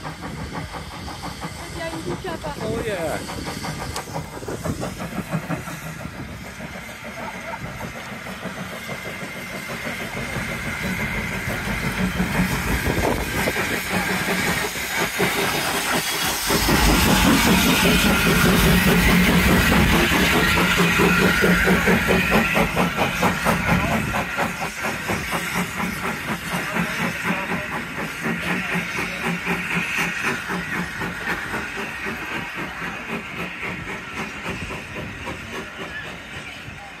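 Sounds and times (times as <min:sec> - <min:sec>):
steam locomotive exhaust beats: 0:00.0 - 0:37.0.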